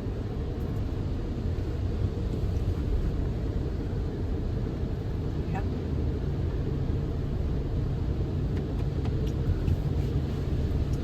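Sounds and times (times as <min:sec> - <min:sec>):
car rumble inside car wash: 0:00.0 - 0:11.0.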